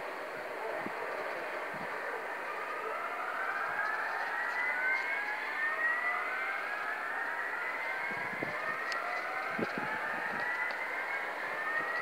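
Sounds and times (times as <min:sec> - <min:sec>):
wailing alarm sirens: 0:00.0 - 0:12.0.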